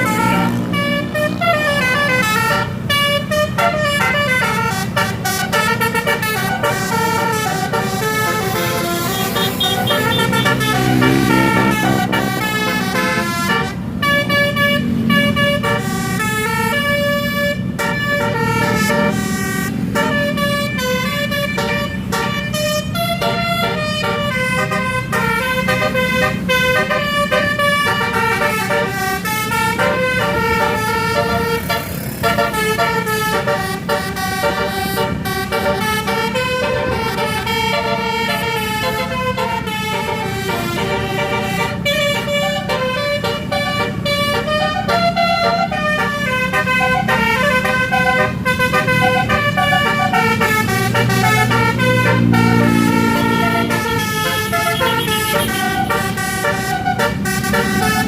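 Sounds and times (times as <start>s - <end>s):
bus engine humming: 0.0s - 58.0s
multi-tone bus horn tune: 0.0s - 58.0s.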